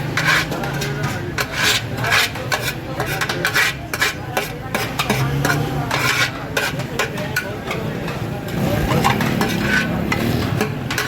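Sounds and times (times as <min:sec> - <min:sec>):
metal utensils scraping dishes: 0:00.0 - 0:11.0.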